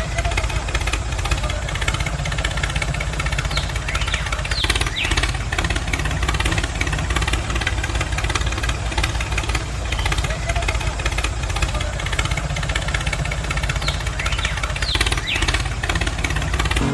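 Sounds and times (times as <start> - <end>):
tractor engine chugging: 0.0 - 16.9.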